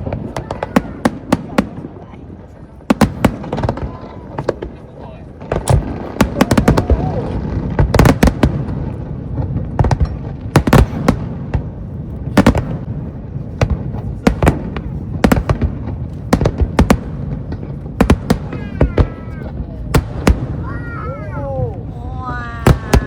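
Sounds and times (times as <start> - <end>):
fireworks cracking: 0.0 - 23.0.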